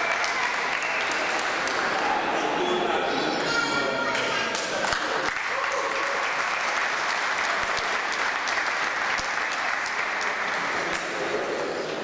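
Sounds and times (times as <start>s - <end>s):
crowd applauding: 0.0s - 2.2s, 4.0s - 12.0s.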